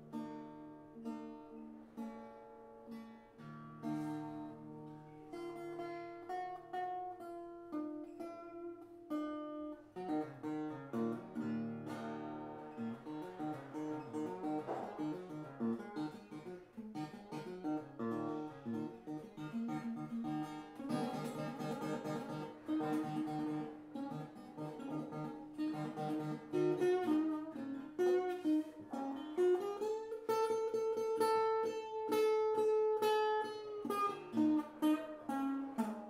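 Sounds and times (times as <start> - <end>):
acoustic guitar picking and strumming: 0.0 - 36.0.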